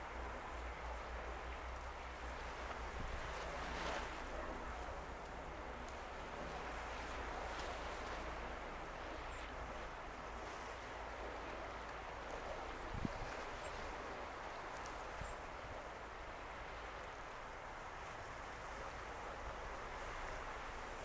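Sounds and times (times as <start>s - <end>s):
choppy water washing: 0.0s - 21.0s
low wind rumble on microphone: 0.0s - 21.0s.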